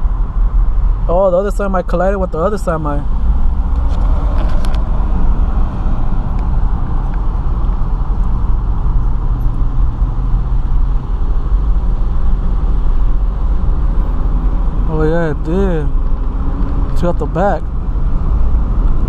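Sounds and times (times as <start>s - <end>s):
car road rumble and engine hum: 0.0s - 19.0s.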